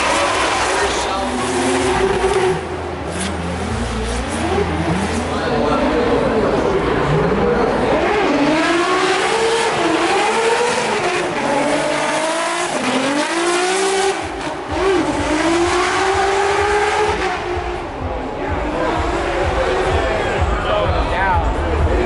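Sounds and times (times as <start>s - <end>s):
car engine revving hard: 0.0s - 20.6s.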